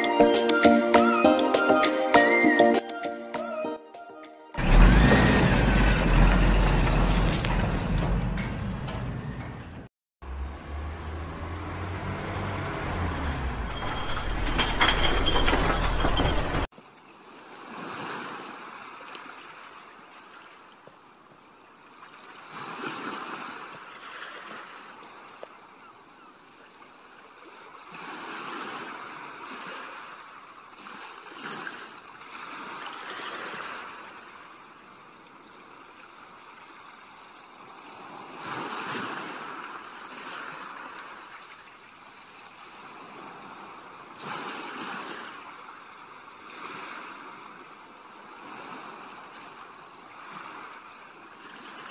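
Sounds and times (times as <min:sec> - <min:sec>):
river water flowing and sloshing: 0:04.5 - 0:09.4, 0:10.3 - 0:51.9.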